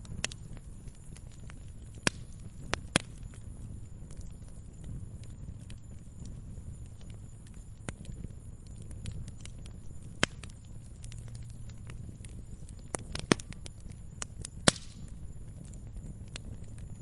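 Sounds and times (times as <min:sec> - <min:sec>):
bonfire crackling and popping: 0:00.0 - 0:17.0
low steady rumble: 0:00.0 - 0:17.0.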